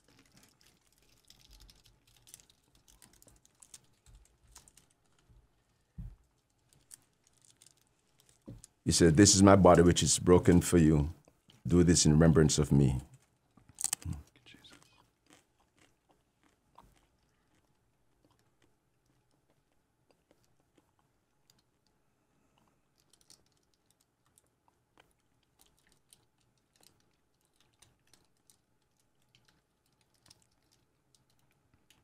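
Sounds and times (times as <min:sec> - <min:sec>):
faint small clicks and crunches: 0:00.0 - 0:08.8, 0:11.2 - 0:11.6, 0:13.0 - 0:32.0.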